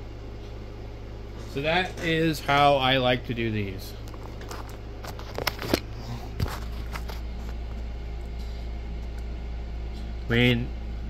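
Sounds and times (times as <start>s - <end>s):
low hum of room equipment: 0.0s - 11.0s.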